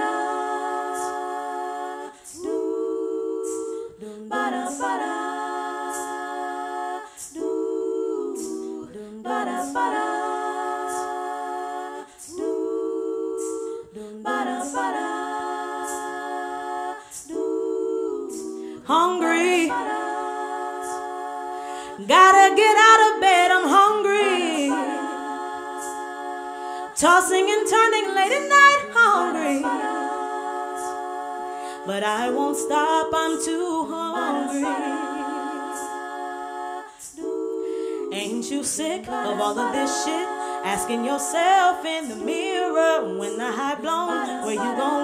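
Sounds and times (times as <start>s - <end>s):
a cappella vocal harmonies: 0.0s - 45.0s
hissing vocal percussion: 0.0s - 45.0s.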